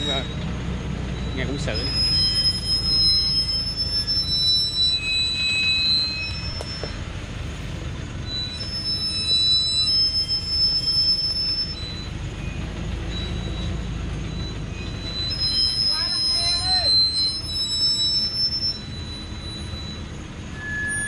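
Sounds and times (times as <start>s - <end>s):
brakes squealing: 0.0s - 21.0s
diesel engine running low: 0.0s - 21.0s.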